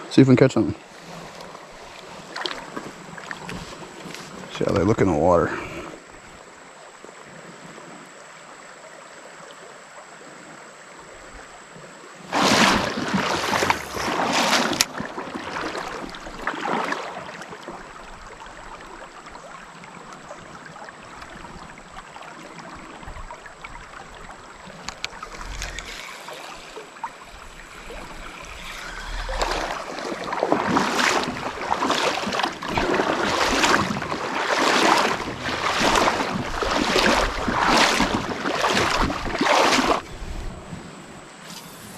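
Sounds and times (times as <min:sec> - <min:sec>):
water splashing around kayak: 0:00.0 - 0:41.9
faint hiss of water: 0:00.2 - 0:41.9.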